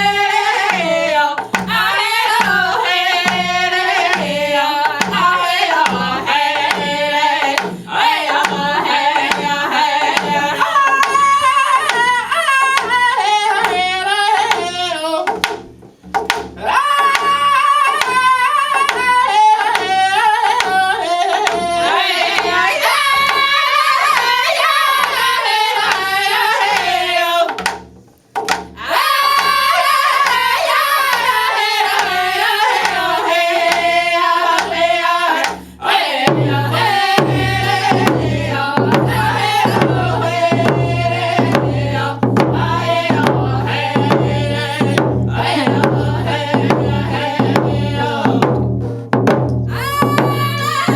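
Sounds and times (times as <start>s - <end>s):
people singing: 0.0s - 15.6s, 16.6s - 27.8s, 28.8s - 48.8s, 49.7s - 50.9s
hand drums beating: 0.0s - 50.9s.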